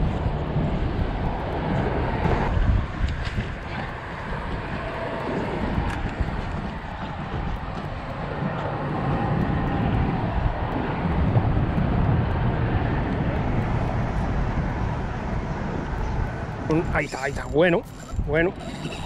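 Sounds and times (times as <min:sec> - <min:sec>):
road traffic rumble on bridge: 0:00.0 - 0:19.0.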